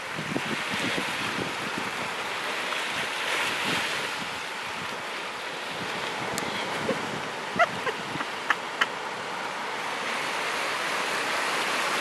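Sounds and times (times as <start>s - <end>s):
surf washing on beach: 0.0s - 12.0s.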